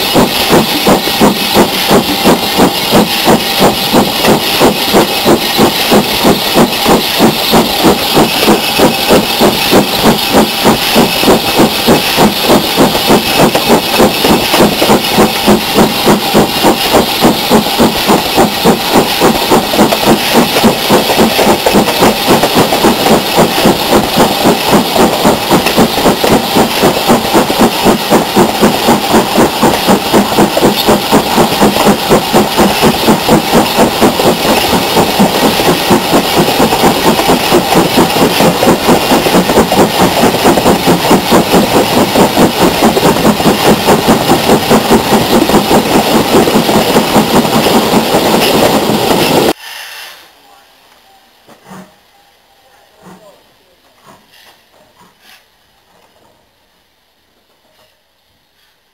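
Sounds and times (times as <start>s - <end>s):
steam locomotive exhaust beats: 0.0s - 50.2s
hiss of steam: 0.0s - 50.5s, 54.0s - 55.5s.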